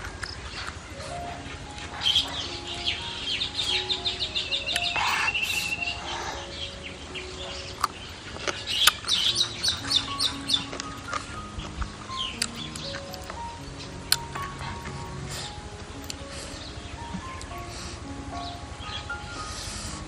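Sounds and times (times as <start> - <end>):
bird chirping: 0.0 - 20.0
soft background music: 0.0 - 20.0.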